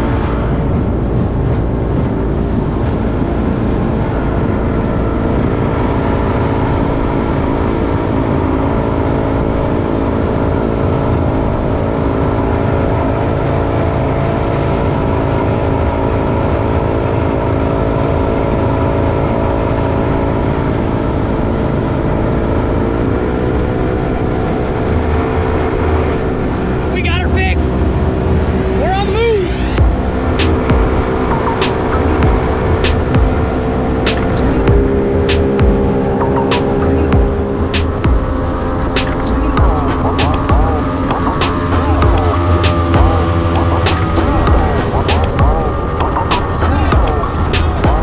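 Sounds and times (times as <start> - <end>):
motorboat engine running: 0.0 - 26.9, 29.5 - 48.0.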